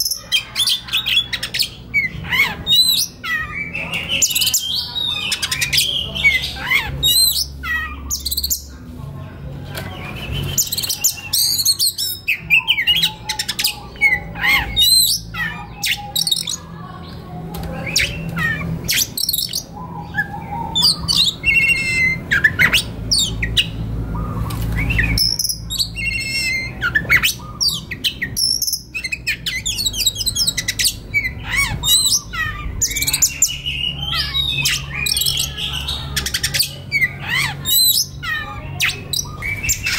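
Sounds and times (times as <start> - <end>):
bird squawks: 0.0 - 8.7, 10.4 - 17.0, 17.6 - 39.9.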